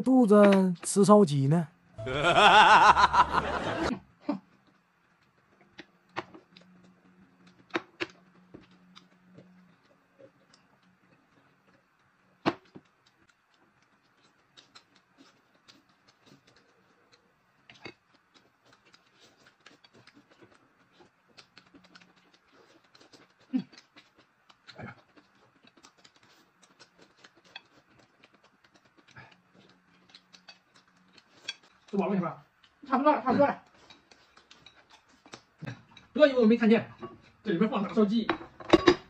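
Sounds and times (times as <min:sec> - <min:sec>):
chewing: 0:04.4 - 0:36.2.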